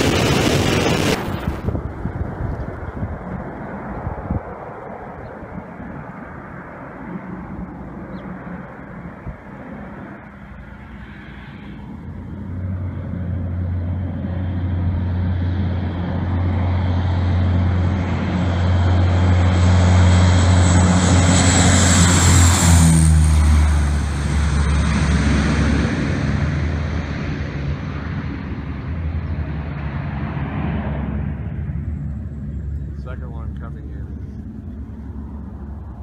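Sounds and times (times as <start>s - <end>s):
turboprop engines droning: 0.0s - 36.0s.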